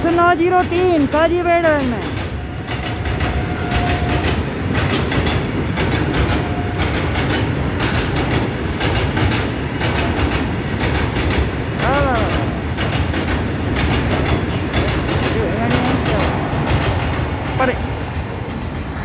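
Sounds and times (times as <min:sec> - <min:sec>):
train wheels rumbling and clattering: 0:00.0 - 0:19.0.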